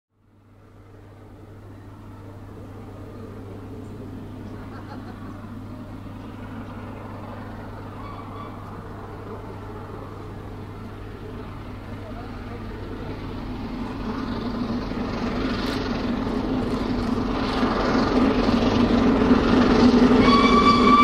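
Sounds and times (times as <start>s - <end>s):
low engine hum: 0.1s - 21.0s.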